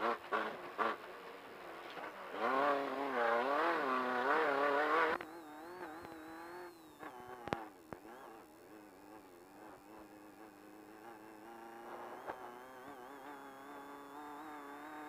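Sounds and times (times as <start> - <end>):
race car engine revving: 0.0 - 15.0
faint high whine: 0.9 - 15.0.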